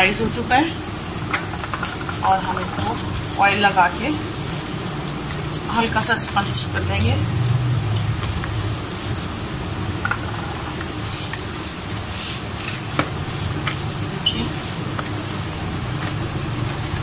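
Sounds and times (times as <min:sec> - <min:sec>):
steady low hum: 0:00.0 - 0:17.0
dough squelching as kneaded: 0:01.7 - 0:17.0.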